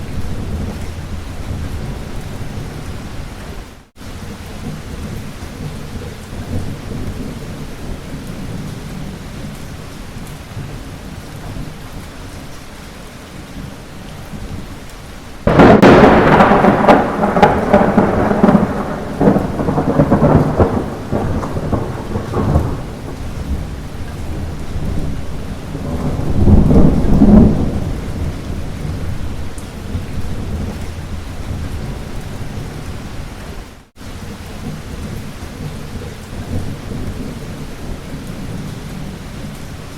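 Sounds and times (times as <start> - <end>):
thunder rumbling: 0.0 - 3.8, 4.4 - 12.3, 13.5 - 33.8, 34.6 - 39.9
light rain falling: 0.0 - 39.9.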